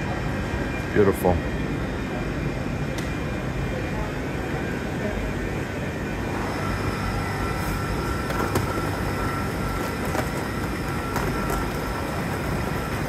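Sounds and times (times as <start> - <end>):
low rumble of train shed: 0.0 - 13.0
thin steady whine: 0.0 - 13.0.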